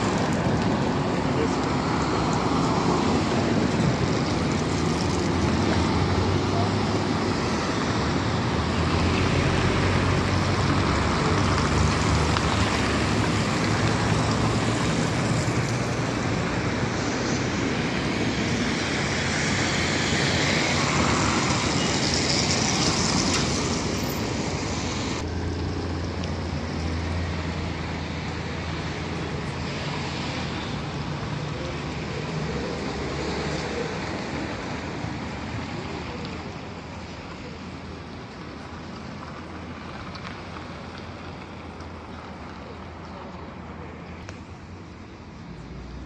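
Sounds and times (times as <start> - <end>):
road traffic passing: 0.0 - 46.0
tyre noise on asphalt: 0.0 - 46.0.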